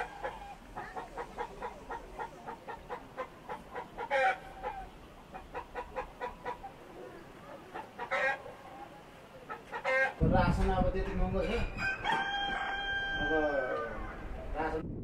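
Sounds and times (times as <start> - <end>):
loud high chicken calls: 0.0 - 10.2, 11.4 - 14.4
chickens clucking: 0.0 - 14.8.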